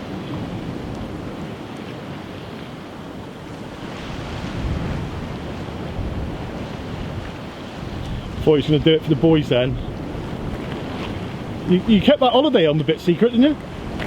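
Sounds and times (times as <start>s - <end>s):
sea waves on rocky shore: 0.0s - 14.0s
wind buffeting microphone: 0.0s - 14.0s.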